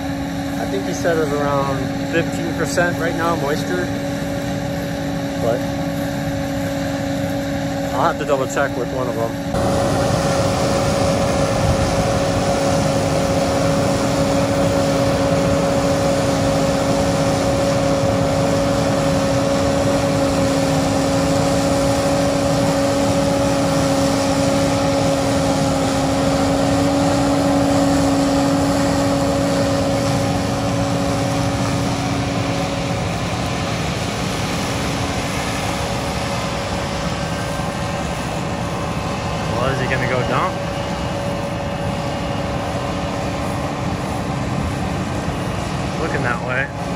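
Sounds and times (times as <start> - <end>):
combine harvester drone: 0.0 - 46.9.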